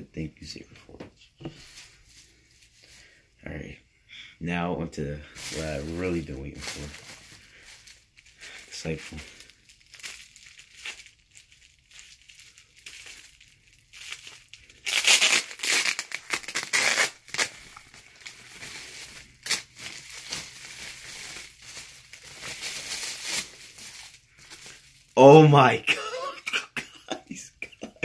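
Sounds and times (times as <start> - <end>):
bubble wrap and tape crinkling: 1.2 - 3.2, 5.2 - 25.8.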